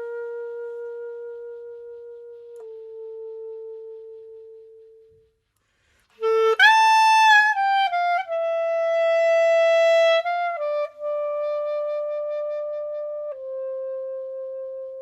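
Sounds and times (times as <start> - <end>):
woodwind melody: 0.0 - 15.0.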